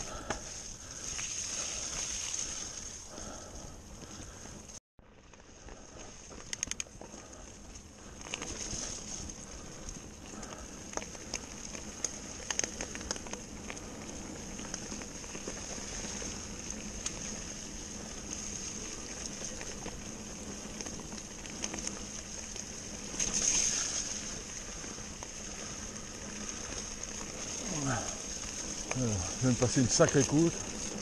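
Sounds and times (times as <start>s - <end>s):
bike tyres rolling on dirt trail: 0.0s - 31.0s.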